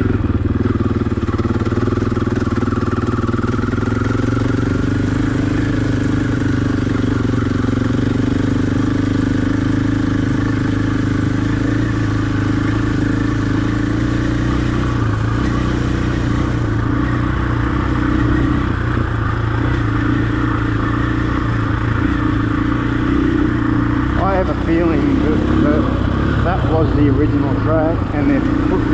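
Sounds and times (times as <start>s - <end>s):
dirt bike engine running: 0.0s - 28.9s.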